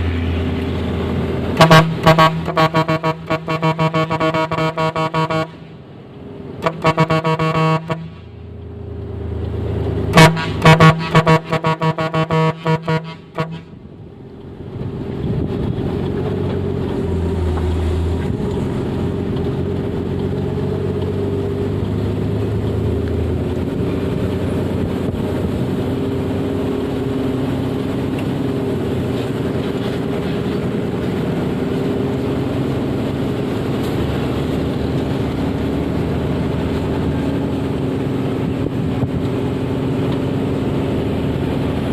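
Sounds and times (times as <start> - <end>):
road noise: 0.0 - 41.9
vehicle engine droning: 0.0 - 41.9.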